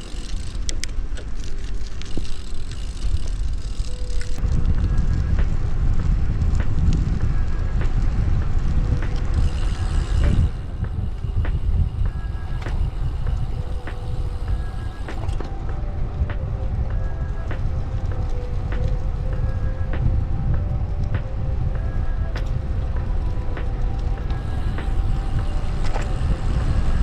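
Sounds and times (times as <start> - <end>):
bike clicks: 0.0 - 27.0
wind and road rumble: 0.0 - 27.0.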